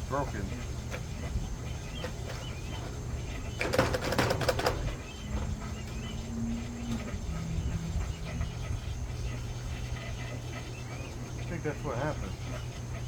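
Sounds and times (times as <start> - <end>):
faint birds chirping: 0.0 - 13.0
washing machine motor hum: 0.0 - 13.0.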